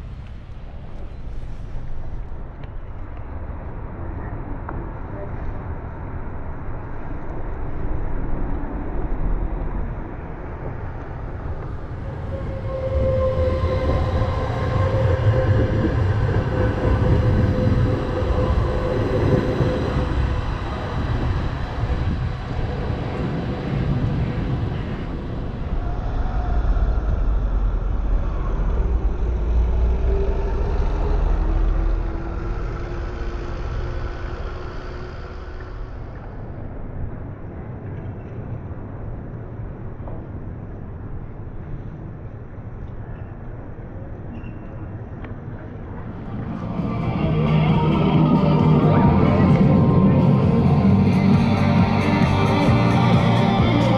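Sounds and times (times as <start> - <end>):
tram rumbling: 0.0 - 38.6, 44.9 - 53.9.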